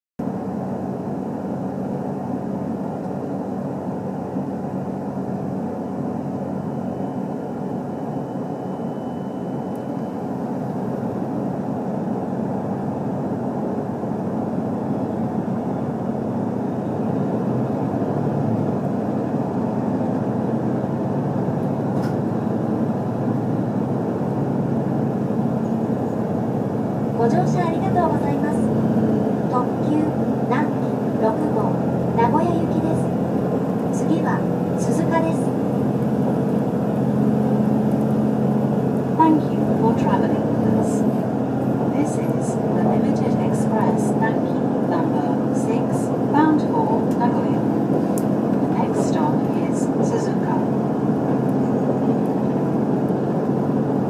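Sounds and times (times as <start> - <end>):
train low hum and rumble: 0.2 - 54.0.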